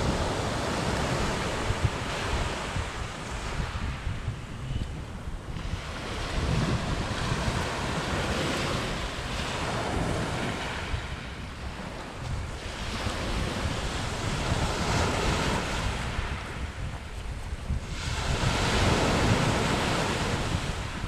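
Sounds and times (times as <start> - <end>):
waves breaking on shore: 0.0 - 21.0
wind rumbling on microphone: 0.0 - 21.0.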